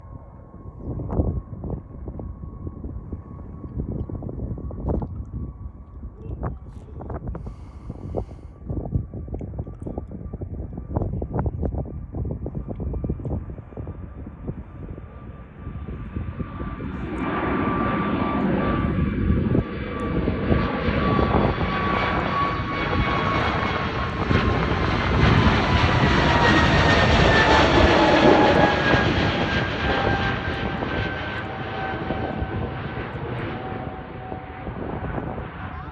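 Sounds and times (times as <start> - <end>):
airplane engines roaring: 0.0 - 35.9.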